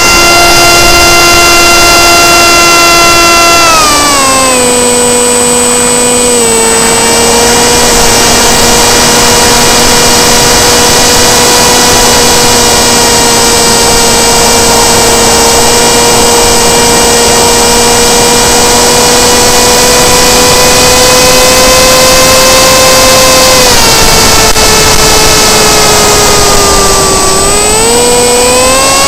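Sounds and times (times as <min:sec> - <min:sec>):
electric motor and propeller whine: 0:00.0 - 0:29.0.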